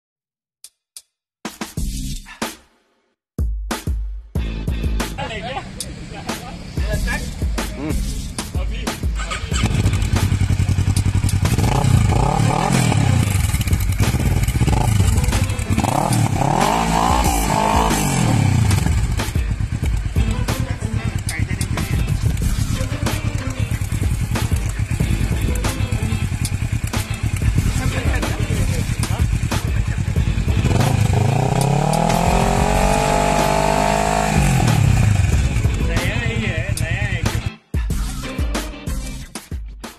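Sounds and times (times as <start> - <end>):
motorcycle engine idling and revving: 4.4 - 38.2.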